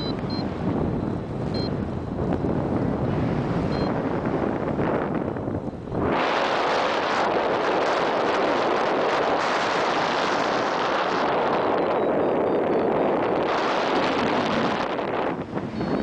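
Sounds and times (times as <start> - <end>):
wind roaring on microphone: 0.0 - 16.0.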